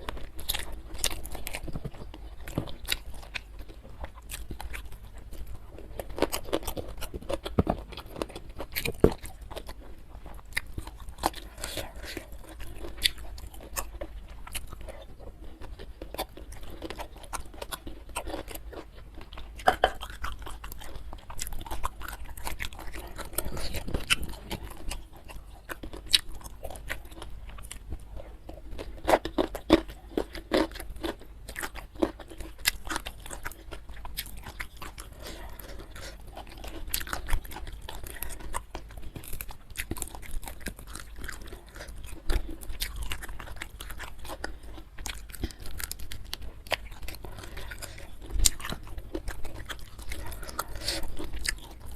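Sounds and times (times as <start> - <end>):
chewing and crunching food: 0.0 - 51.9.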